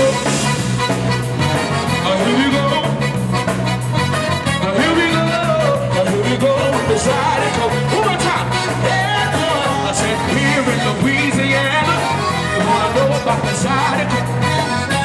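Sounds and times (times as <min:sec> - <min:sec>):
accordion melody: 0:00.0 - 0:15.0
bass: 0:00.0 - 0:15.0
steady drum beat: 0:00.0 - 0:15.0.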